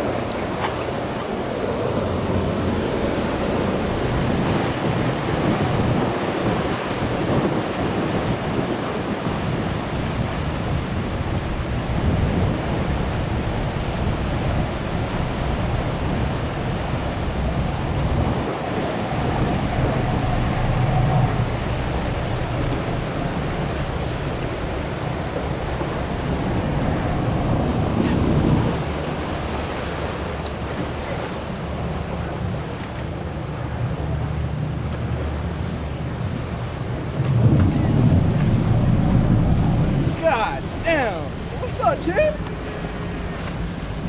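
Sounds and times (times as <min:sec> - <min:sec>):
wind buffeting microphone: 0:00.0 - 0:34.3, 0:35.3 - 0:44.0
water rushing past boat: 0:00.0 - 0:44.0.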